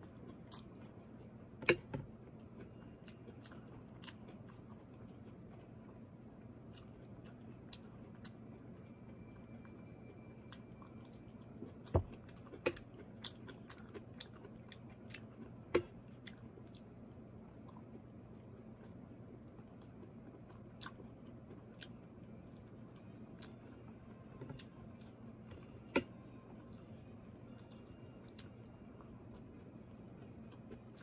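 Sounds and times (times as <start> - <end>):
person chewing broccoli: 0.0 - 31.0.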